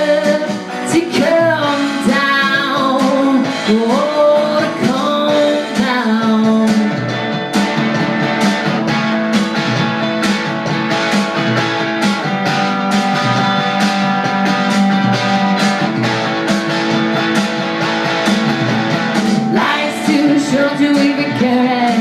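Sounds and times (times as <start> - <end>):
drums keeping a steady beat: 0.0 - 22.0
strummed guitars: 0.0 - 22.0.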